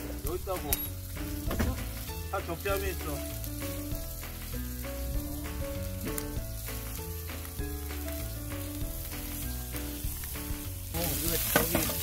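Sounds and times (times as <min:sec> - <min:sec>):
background music: 0:00.0 - 0:12.0
meat sizzling on a griddle: 0:00.0 - 0:12.0.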